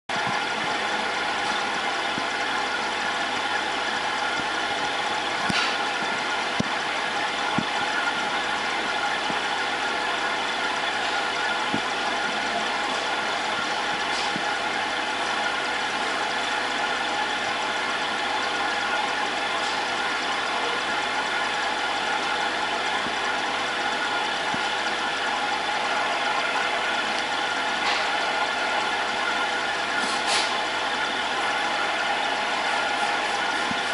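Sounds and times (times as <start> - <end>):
aquarium pump humming: 0.1 - 33.9.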